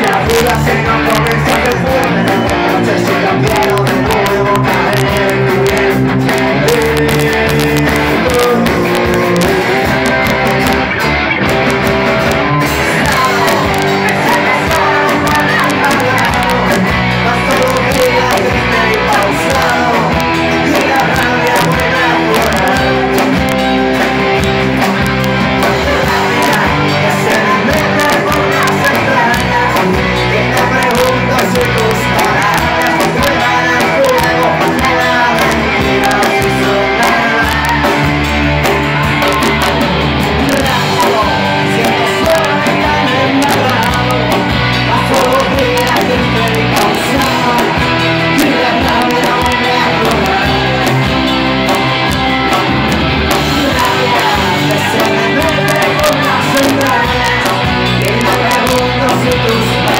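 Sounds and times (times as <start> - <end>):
man and woman singing: 0.0 - 10.4, 12.7 - 24.4, 25.5 - 38.6, 40.4 - 52.1, 53.3 - 59.9
drums: 0.0 - 59.9
electric bass: 0.0 - 59.9.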